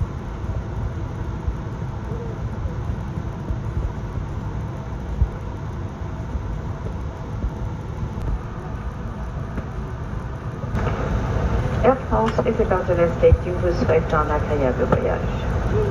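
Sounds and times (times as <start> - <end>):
aircraft cabin rumble and hum: 0.0 - 15.9.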